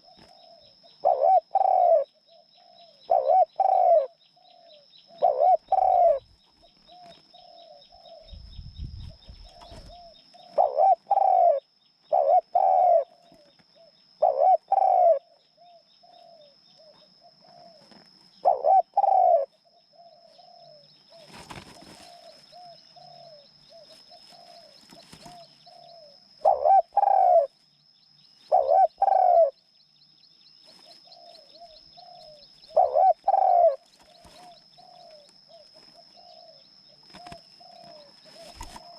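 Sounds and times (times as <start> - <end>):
dove cooing: 0.0 - 27.5, 28.4 - 29.6, 30.8 - 38.9.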